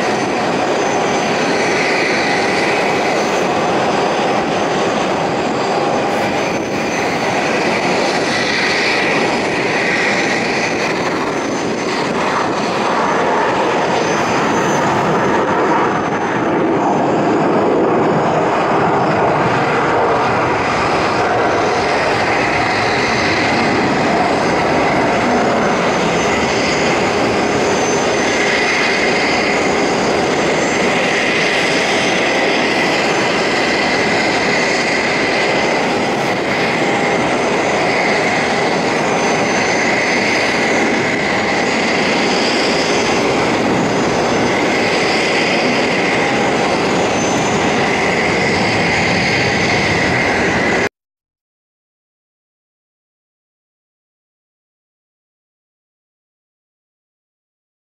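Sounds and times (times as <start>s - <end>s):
jet turbine roar and whine: 0.0s - 50.9s.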